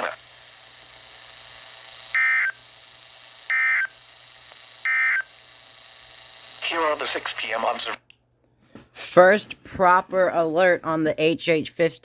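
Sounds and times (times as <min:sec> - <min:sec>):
faint radio hiss: 0:00.0 - 0:11.8.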